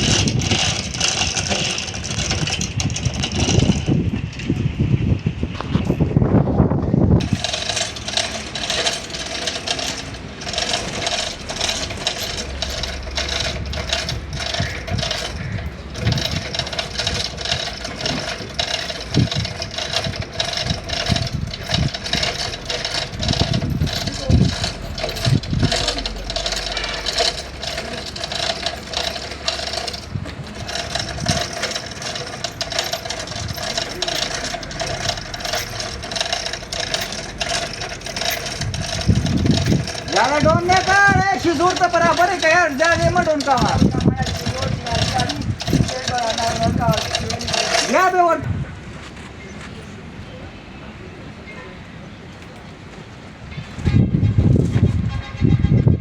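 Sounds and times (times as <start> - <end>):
metal clinking and rattling: 0.0 - 4.8, 7.2 - 48.5
mechanical hum: 0.0 - 50.4.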